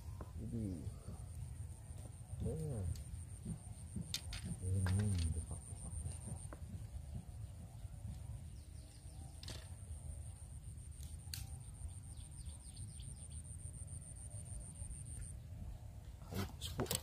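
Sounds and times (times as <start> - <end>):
faint bird chirps: 0.0 - 17.0
steady high-pitched whine: 0.0 - 17.0.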